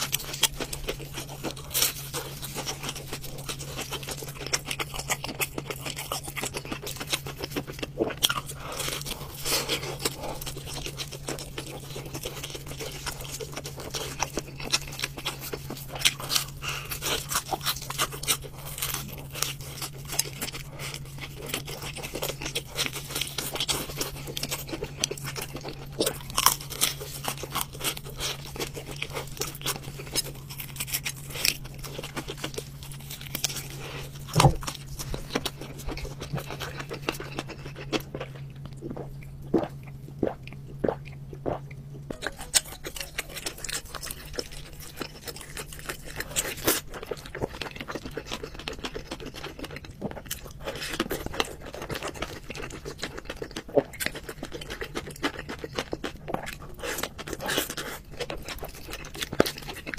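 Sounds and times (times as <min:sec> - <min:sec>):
person crunching and chewing food: 0:00.0 - 0:59.9
steady low hum: 0:00.0 - 0:59.9.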